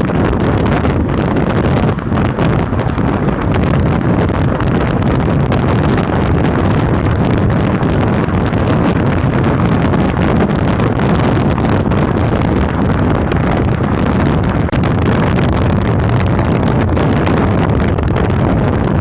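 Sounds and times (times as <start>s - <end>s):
motorcycle running: 0.0s - 19.0s
wind rushing over microphone: 0.0s - 19.0s.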